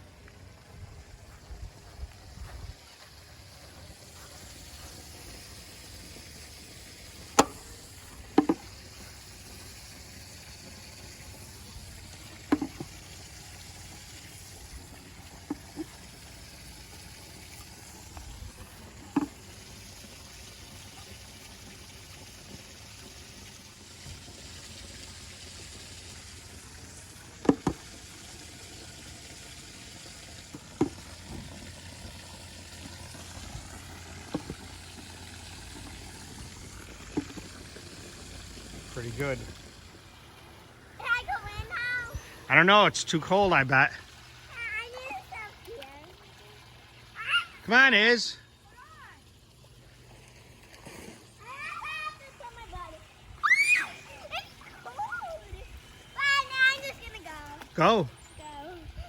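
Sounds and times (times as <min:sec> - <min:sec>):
water running into a pool: 0:00.0 - 0:59.0.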